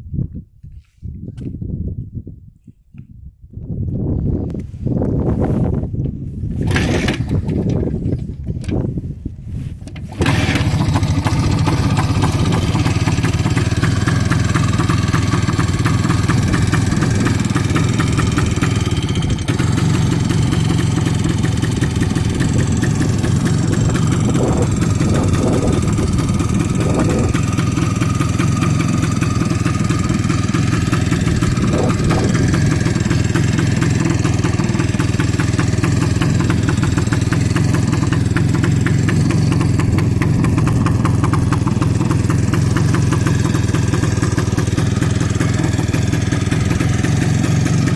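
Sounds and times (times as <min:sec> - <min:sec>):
two-stroke motorcycle engine running: 0:06.6 - 0:08.2, 0:10.0 - 0:47.9.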